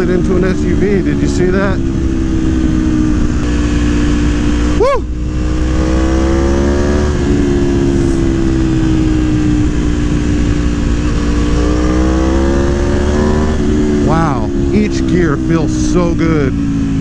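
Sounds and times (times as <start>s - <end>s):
motorcycle engine accelerating: 0.0s - 17.0s
wind noise on microphone: 1.1s - 14.8s.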